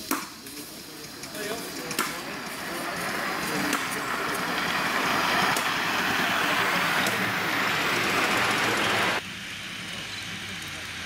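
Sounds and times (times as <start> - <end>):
model steam locomotive hissing: 0.0 - 11.0.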